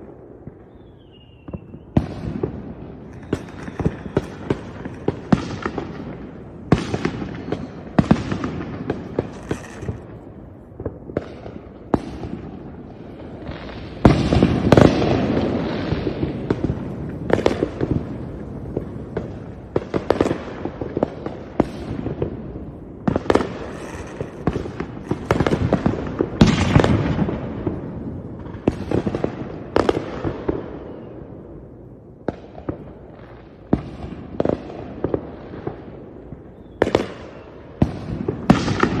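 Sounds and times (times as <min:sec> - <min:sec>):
fireworks exploding: 0:00.0 - 0:31.2, 0:32.2 - 0:39.0.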